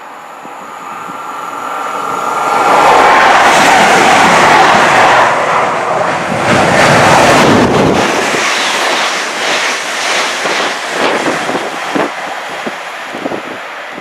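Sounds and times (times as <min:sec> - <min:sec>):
diesel train passing: 0:00.0 - 0:14.0
electric train running past: 0:00.0 - 0:14.0
wind buffeting microphone: 0:00.3 - 0:14.0.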